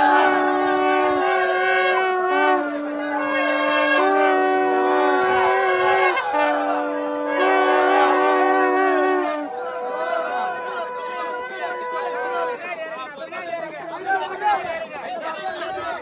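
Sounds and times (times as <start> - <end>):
horns blowing long notes: 0.0 - 12.8.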